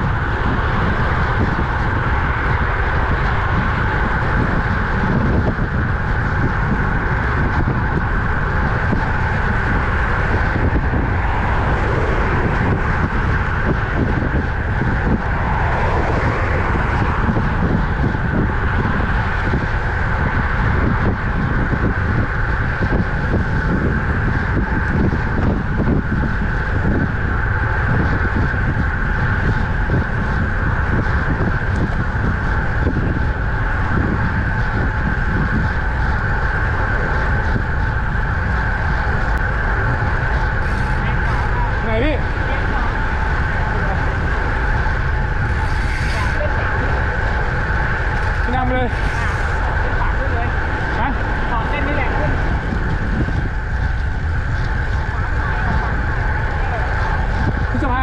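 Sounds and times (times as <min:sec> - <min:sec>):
road noise: 0:00.0 - 0:58.0
wind rushing over microphone: 0:00.0 - 0:58.0.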